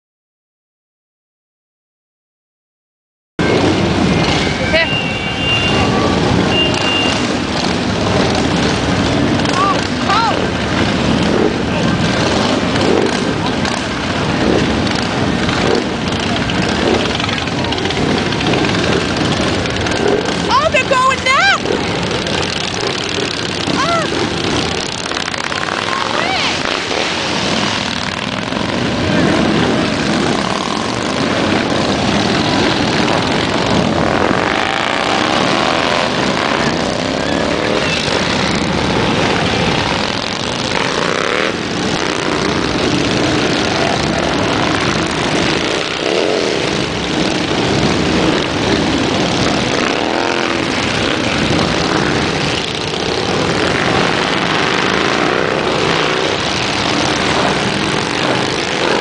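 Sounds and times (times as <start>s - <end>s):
motorcycles riding past revving: 3.4s - 59.0s.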